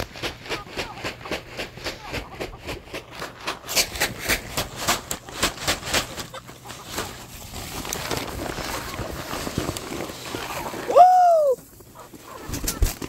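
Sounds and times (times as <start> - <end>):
chickens clucking: 0.0 - 9.3, 11.6 - 13.0
quick rhythmic crunching: 0.0 - 10.9.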